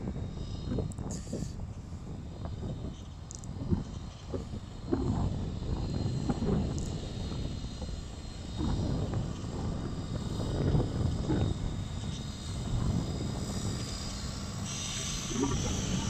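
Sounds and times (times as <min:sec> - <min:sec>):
small quad bike engines buzzing: 0:00.0 - 0:16.0.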